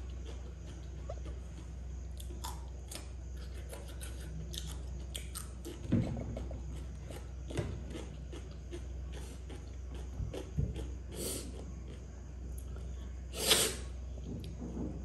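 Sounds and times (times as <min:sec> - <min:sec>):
crunchy chewing of cucumber: 0:00.0 - 0:14.6.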